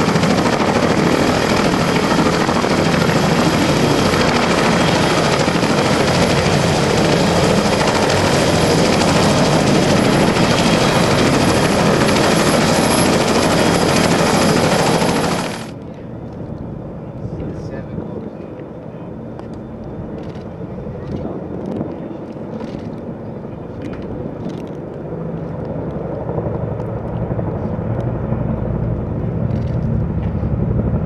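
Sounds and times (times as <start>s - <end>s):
distant helicopter sound: 0.0s - 31.0s
helicopter rotor and engine noise: 0.0s - 31.0s.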